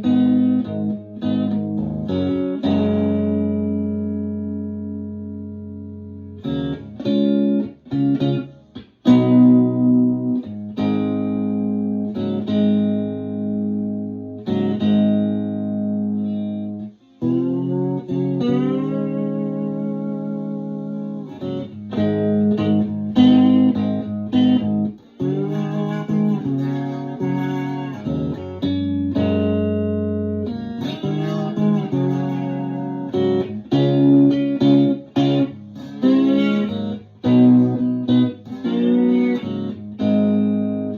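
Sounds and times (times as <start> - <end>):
slide electric guitar arpeggios: 0.0 - 40.9.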